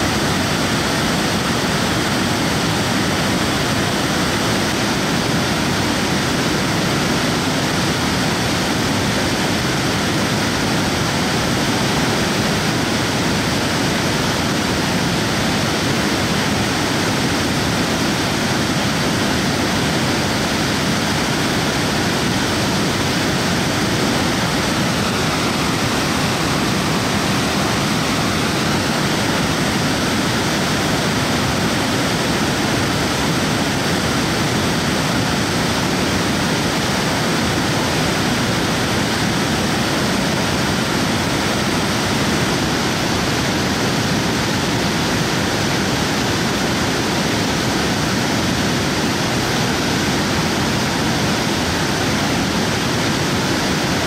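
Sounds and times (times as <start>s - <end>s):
rapids rushing: 0.0s - 54.0s.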